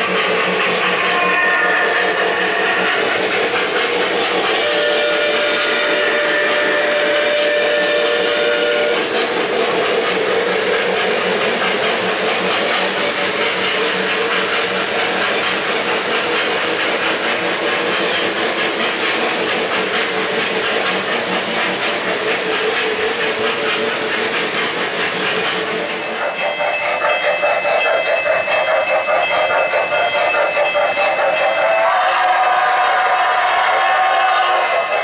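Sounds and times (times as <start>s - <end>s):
model train wheels rattling: 0.0s - 35.0s.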